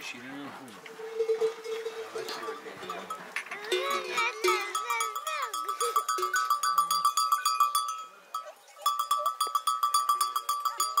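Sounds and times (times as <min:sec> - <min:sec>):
livestock bells clanking: 0:00.9 - 0:11.0.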